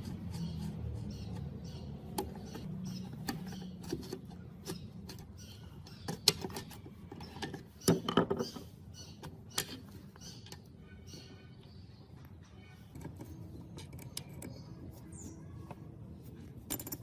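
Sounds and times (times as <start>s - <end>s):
hand tools clicking and knocking: 0.0s - 10.7s, 12.8s - 17.0s.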